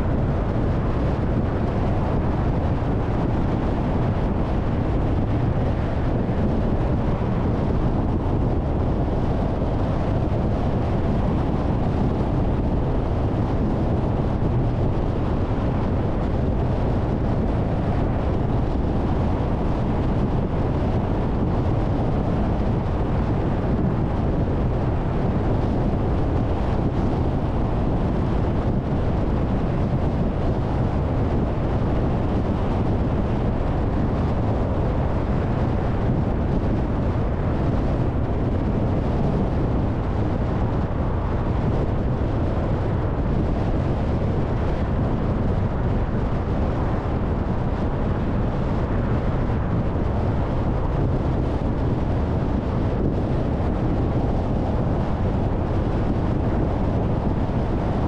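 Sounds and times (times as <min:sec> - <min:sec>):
wind noise: 0:00.0 - 0:58.0.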